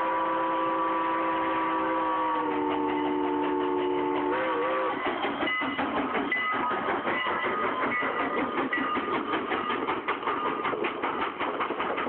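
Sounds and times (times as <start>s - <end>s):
steam locomotive clattering past: 0.0s - 12.0s.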